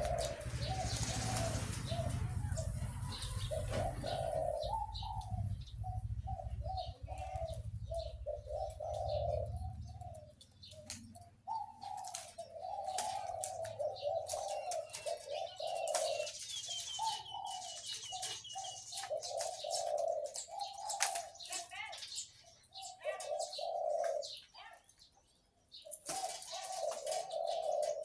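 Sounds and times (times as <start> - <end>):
dove cooing: 0.0 - 24.8, 25.7 - 28.0
small bird chirping trill: 0.0 - 28.0.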